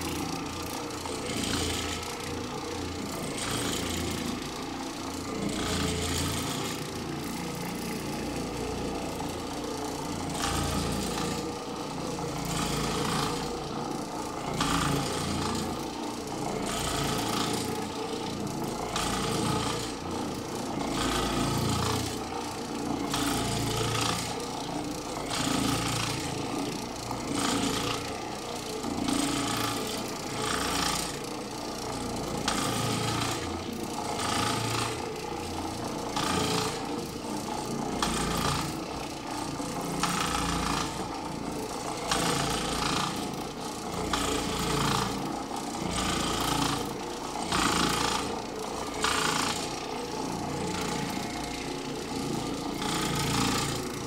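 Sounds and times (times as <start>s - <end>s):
floor machine scrubbing carpet: 0.0s - 54.0s.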